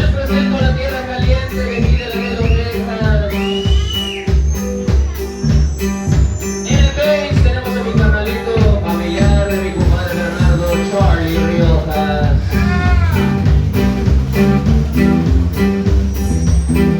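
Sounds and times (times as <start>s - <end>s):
live band music: 0.0s - 16.9s.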